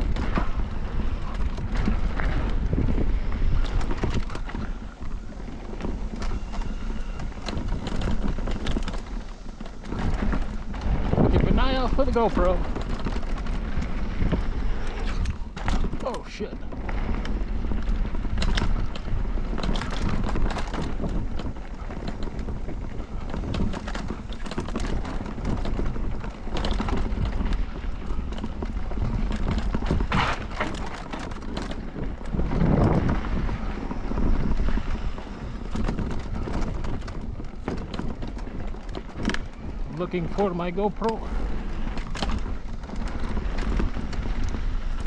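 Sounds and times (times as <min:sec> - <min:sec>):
bike clattering over bumps: 0:00.0 - 0:45.0
tyres rumbling on dirt: 0:00.0 - 0:45.0
wind buffeting microphone: 0:00.0 - 0:45.0.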